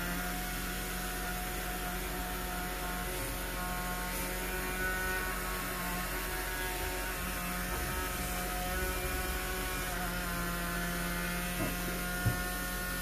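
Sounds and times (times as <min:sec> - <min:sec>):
generator electrical hum: 0:00.0 - 0:13.0.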